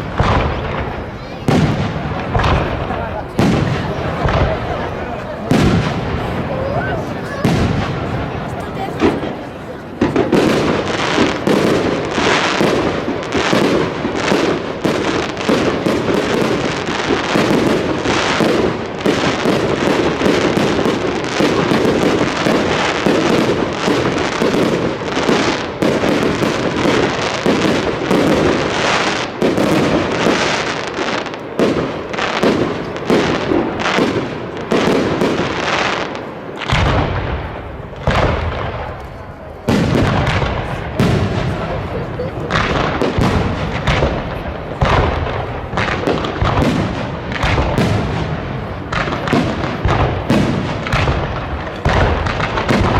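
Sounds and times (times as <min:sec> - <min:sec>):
fireworks bangs and crackle: 0:00.0 - 0:52.9.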